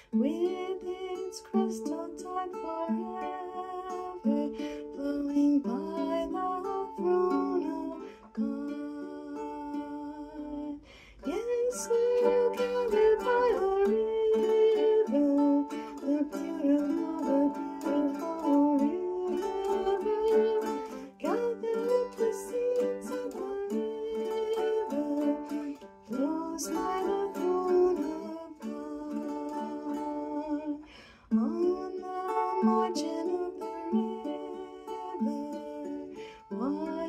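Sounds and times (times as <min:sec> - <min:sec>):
ukulele plucking: 0:00.0 - 0:37.0
woman singing: 0:00.0 - 0:37.0.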